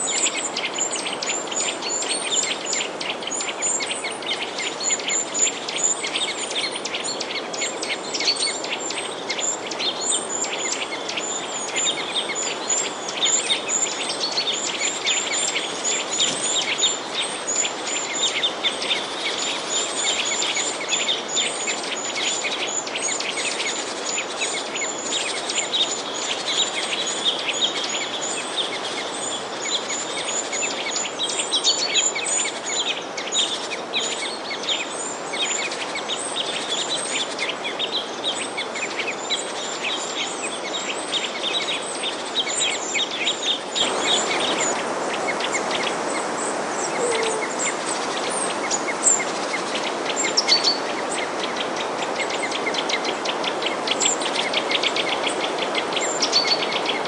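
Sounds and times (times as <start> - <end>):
songbirds chirping: 0.0 - 57.0
steady background hiss: 0.0 - 57.0.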